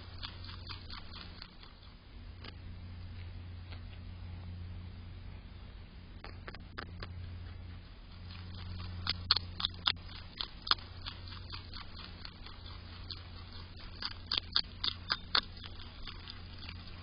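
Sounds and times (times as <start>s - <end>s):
animal chewing crisp celery: 0.0s - 4.1s, 6.4s - 17.0s.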